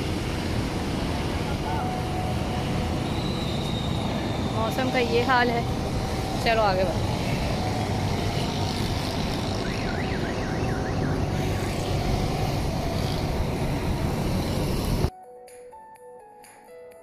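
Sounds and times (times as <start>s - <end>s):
traffic on a wet street: 0.0s - 15.1s.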